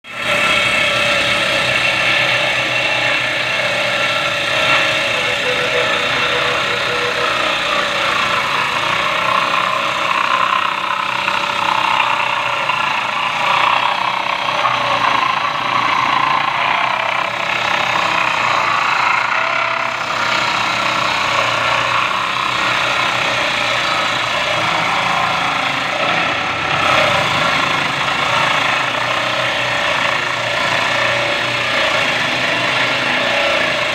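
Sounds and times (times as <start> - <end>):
woodworking power tool whirring: 0.0 - 33.9.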